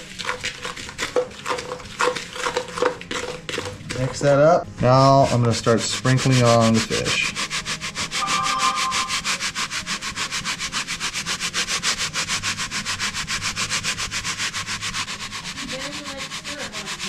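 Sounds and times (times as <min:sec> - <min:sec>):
grains rasping from a bowl: 0:00.0 - 0:04.3, 0:05.0 - 0:17.0.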